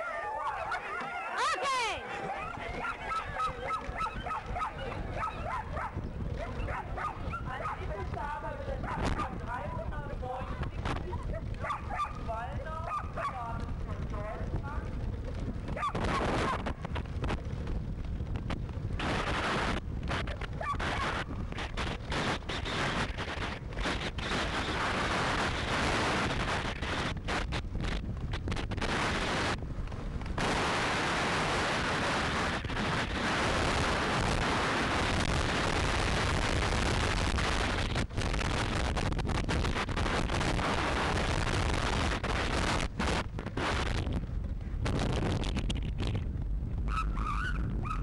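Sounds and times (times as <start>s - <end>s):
cart wheels rolling: 0.0s - 48.0s
wind buffeting microphone: 0.0s - 48.0s.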